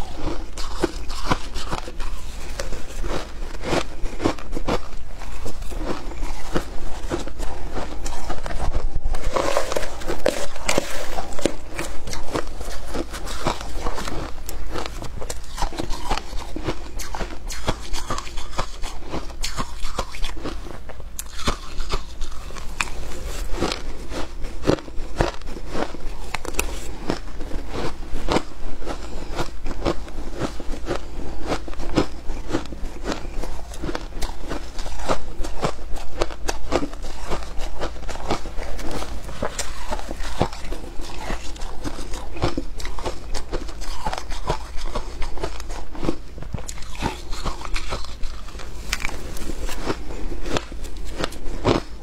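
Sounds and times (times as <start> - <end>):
chewing crunchy ice: 0.0 - 52.0.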